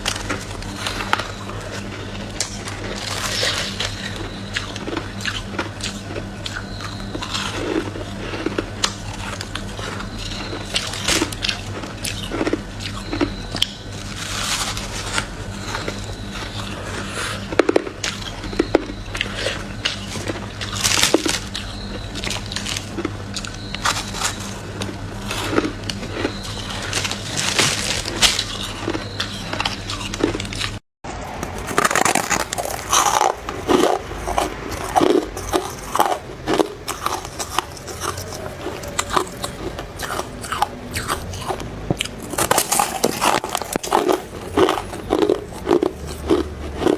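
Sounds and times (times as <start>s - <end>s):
chewing crunchy frost: 0.0s - 46.9s
low steady hum: 0.0s - 46.9s.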